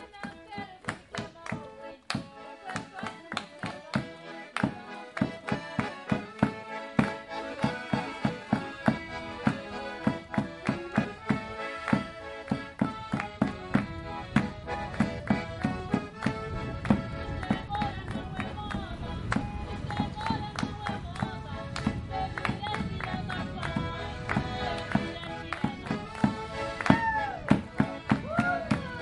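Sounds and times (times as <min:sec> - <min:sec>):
accordion playing folk dance tune: 0:00.0 - 0:29.0
handclaps: 0:00.2 - 0:29.0.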